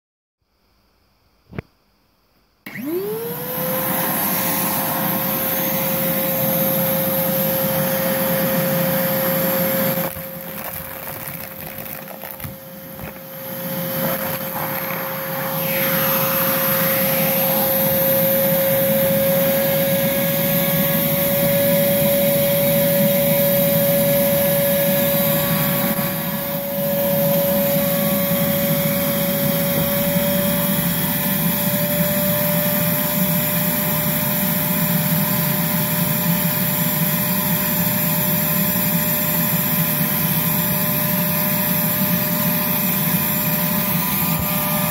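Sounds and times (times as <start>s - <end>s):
shop vacuum motor whine: 2.6s - 44.9s
vacuum sucking debris off carpet: 2.7s - 32.1s, 32.8s - 44.9s.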